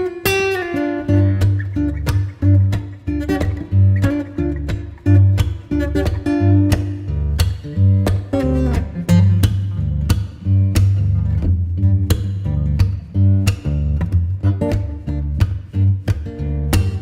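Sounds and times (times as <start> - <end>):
plucked guitar music with beat: 0.0 - 17.0.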